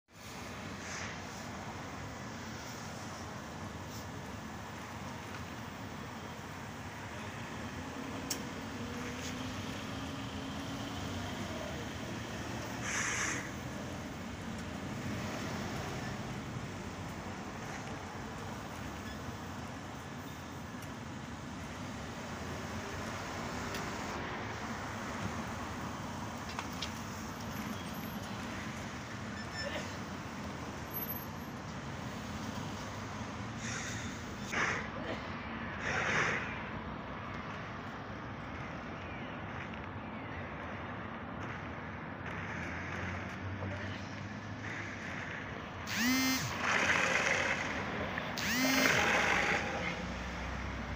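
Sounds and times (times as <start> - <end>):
street background noise: 0.0 - 50.9
cars driving past: 0.2 - 50.9.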